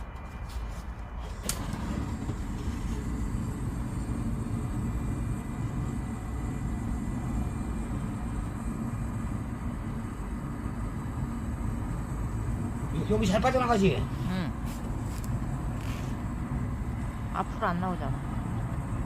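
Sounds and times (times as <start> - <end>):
fire roaring in a stove: 0.0 - 19.0.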